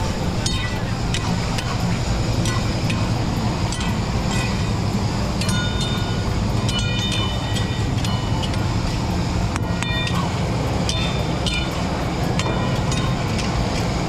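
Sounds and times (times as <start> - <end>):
burner flames roaring: 0.0 - 14.0
ringing metal clanks: 0.0 - 14.0.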